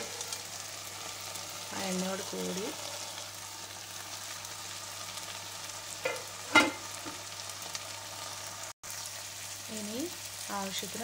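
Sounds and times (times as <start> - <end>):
oil sizzling in a pot: 0.0 - 11.0.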